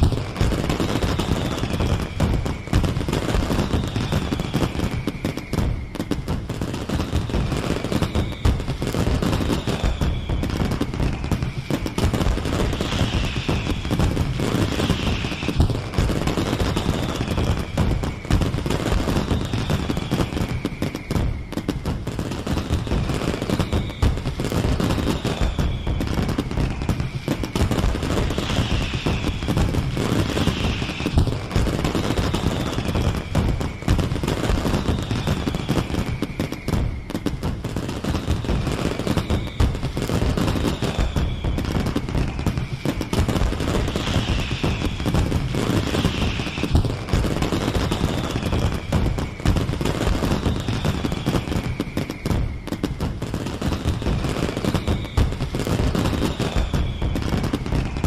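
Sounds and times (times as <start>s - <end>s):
fireworks crackling and banging: 0.0s - 58.0s
high falling whistle: 0.0s - 58.0s.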